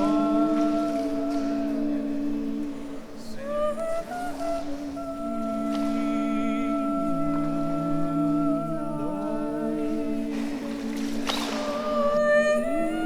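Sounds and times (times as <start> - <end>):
voices humming drone: 0.0 - 13.0.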